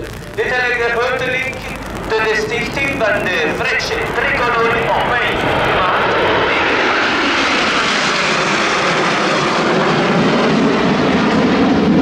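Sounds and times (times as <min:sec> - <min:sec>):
jet aircraft roar passing: 0:00.0 - 0:12.0.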